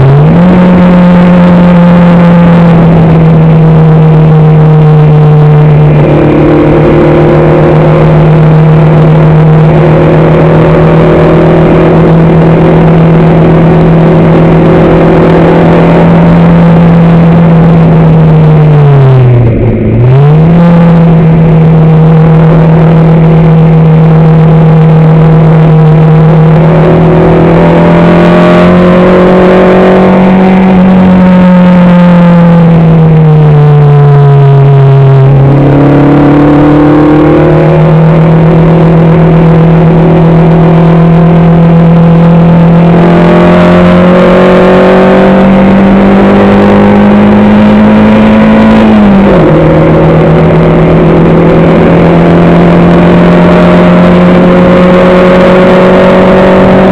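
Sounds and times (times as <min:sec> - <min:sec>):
racing car engine under load: 0:00.0 - 0:56.9.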